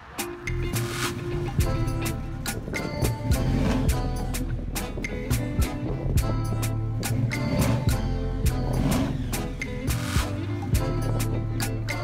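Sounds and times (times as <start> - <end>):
drum beat over bass: 0.1 - 12.0.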